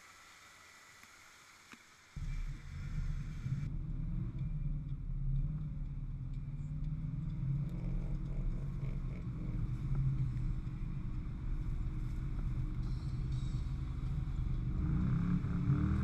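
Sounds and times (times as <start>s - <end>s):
off-road vehicle engine at low revs: 0.0s - 16.0s.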